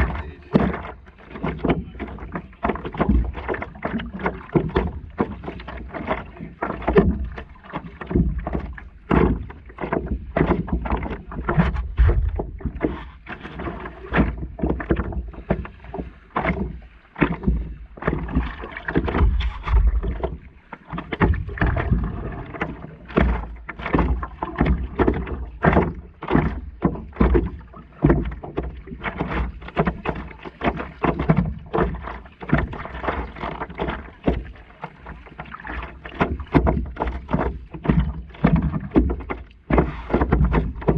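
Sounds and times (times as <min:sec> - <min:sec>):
paddle splashing in water: 0:00.0 - 0:40.9
water sloshing against board: 0:00.0 - 0:40.9.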